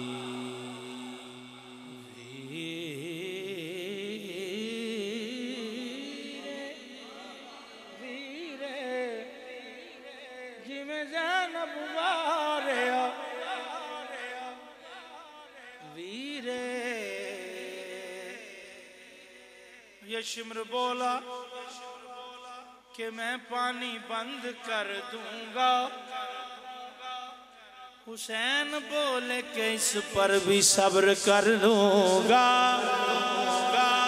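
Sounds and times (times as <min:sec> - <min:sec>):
man chanting into a microphone: 0:00.0 - 0:34.0.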